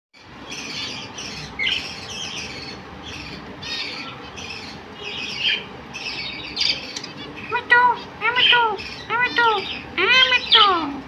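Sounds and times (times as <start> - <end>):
birds chattering and squawking: 0.2 - 11.0.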